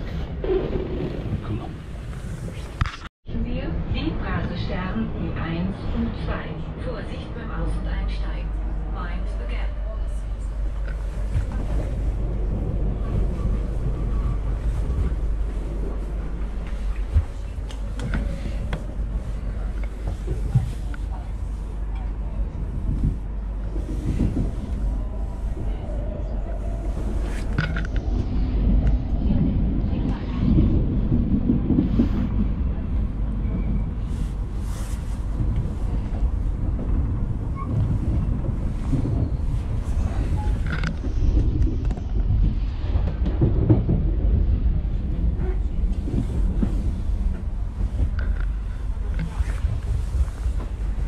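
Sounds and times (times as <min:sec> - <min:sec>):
train wheels rumbling on rails: 0:03.6 - 0:51.0.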